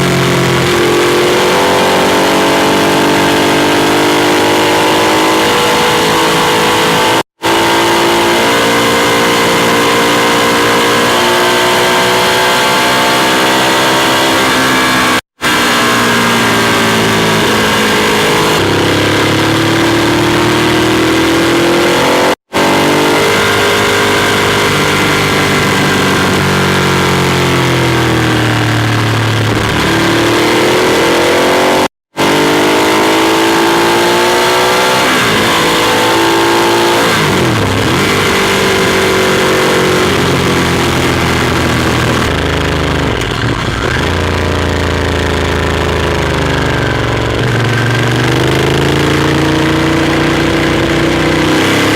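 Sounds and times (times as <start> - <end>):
motorcycle engine under way: 0.0 - 51.9.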